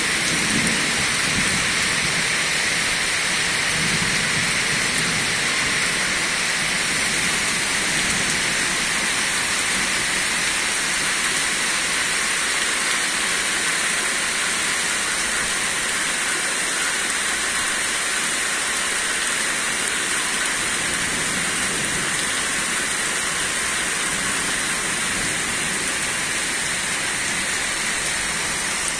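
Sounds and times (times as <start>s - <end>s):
heavy rain on foliage: 0.0s - 28.9s.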